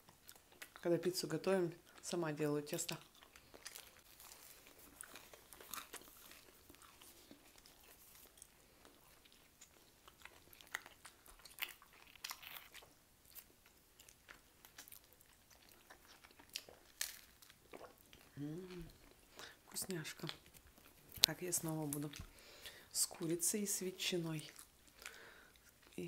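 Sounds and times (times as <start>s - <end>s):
chewing and biting food: 0.0s - 23.4s, 24.2s - 26.0s.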